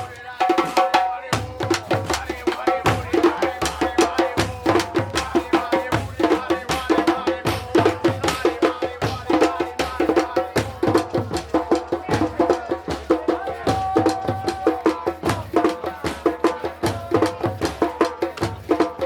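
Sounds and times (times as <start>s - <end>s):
drums in fast rhythm: 0.0s - 19.0s.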